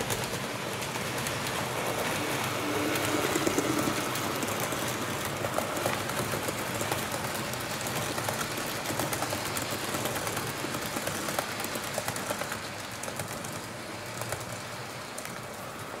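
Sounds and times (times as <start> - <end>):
model train rolling on track: 0.0 - 16.0
wheels clicking over rail joints: 0.0 - 16.0.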